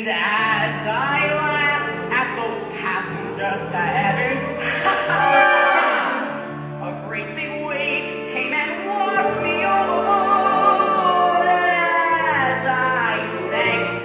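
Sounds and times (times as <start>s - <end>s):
instrumental accompaniment: 0.0s - 14.0s
person singing: 0.0s - 14.0s.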